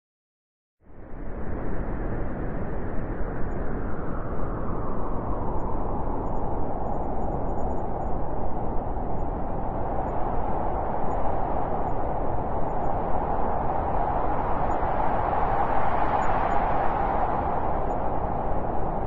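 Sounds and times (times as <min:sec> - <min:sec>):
strong wind rushing: 0:00.9 - 0:19.0.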